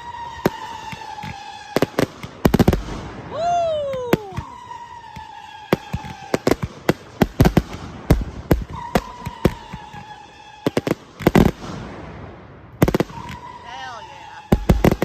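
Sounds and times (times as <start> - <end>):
fireworks bangs and pops: 0.0 - 15.0
high falling firework whistle: 0.0 - 15.0
low falling firework whistle: 0.0 - 15.0.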